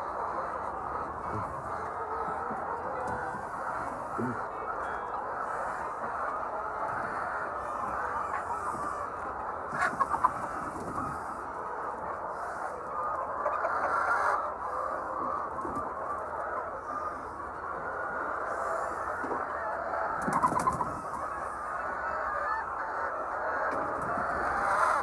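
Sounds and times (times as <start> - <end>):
chickens clucking: 0.0 - 25.0
sharp chicken calls: 0.0 - 25.0.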